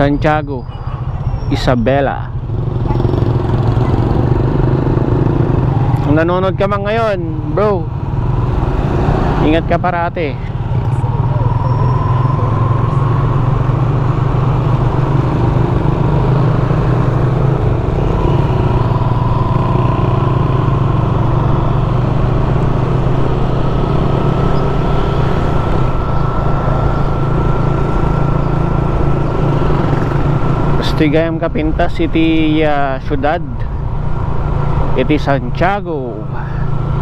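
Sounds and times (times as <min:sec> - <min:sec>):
motorcycle engine cruising: 0:00.0 - 0:37.0
road noise: 0:00.0 - 0:37.0.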